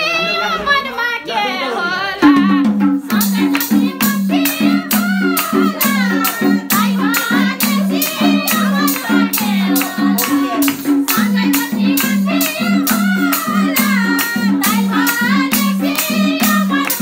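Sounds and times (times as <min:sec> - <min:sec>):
person singing: 0:00.0 - 0:17.0
hand drum rhythm: 0:02.2 - 0:17.0
instrumental melody: 0:02.2 - 0:17.0
rattling percussion strokes: 0:02.2 - 0:17.0.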